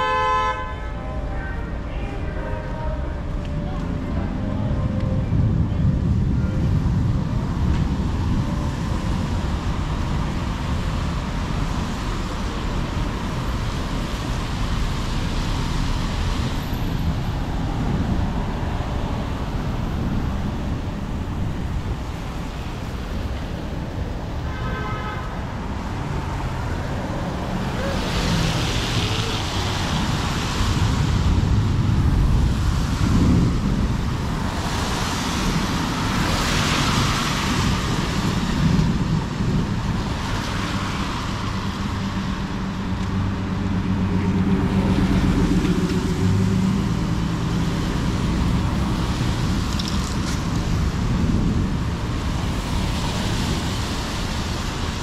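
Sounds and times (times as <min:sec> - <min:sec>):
traffic on wet streets: 0:00.0 - 0:55.0.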